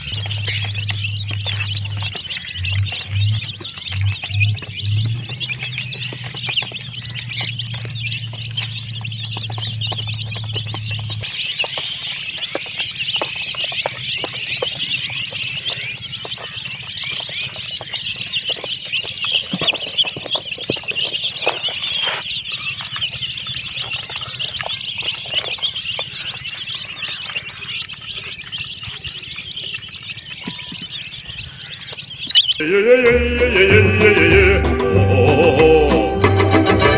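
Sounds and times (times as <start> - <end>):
baby chicks peeping: 0.0 - 36.9.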